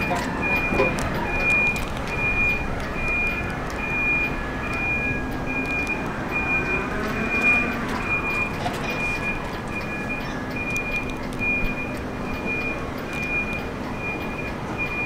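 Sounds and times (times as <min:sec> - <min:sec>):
subway car rumbling past: 0:00.0 - 0:15.0
warning beeper short high beeps: 0:00.0 - 0:15.0.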